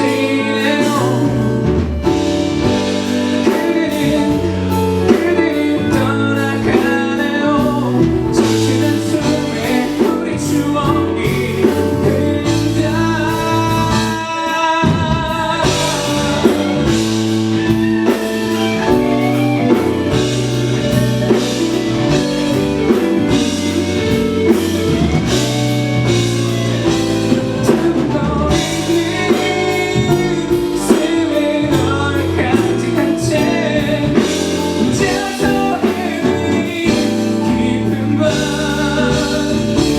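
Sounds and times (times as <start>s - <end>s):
band accompaniment: 0.0s - 39.9s
man singing live: 0.0s - 39.9s.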